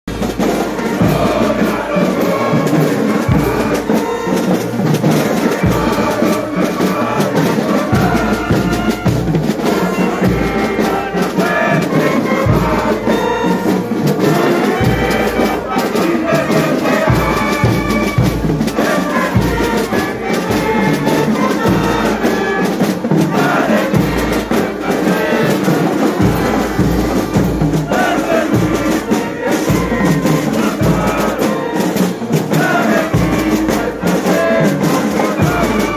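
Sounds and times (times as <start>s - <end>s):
brass band playing a hymn: 0.1s - 35.9s
trumpets playing melody: 0.1s - 35.9s.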